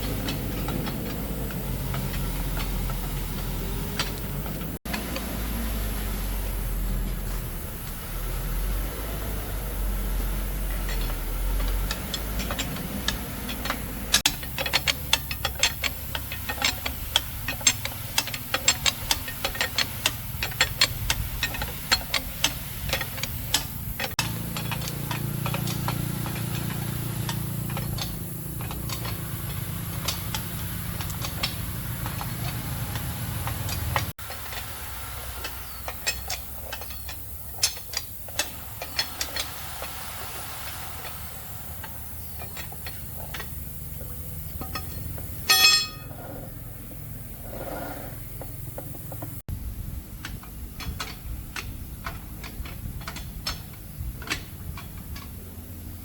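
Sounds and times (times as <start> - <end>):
hand tools clicking on metal: 0.0 - 5.3, 10.2 - 46.2, 50.2 - 56.0.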